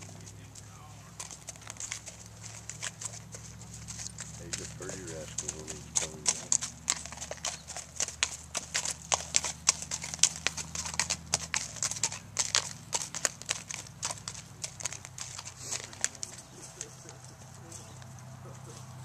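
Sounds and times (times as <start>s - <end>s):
hoofbeats on gravel: 0.0s - 19.0s.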